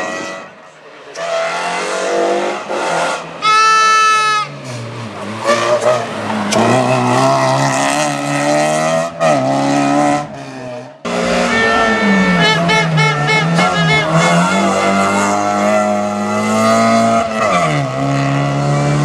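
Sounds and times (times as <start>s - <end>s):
rally car engine at full throttle: 0.0s - 3.8s, 4.4s - 19.0s.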